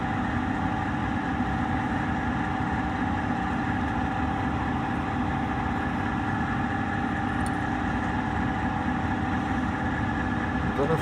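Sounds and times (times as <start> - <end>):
constant hum: 0.0 - 11.0.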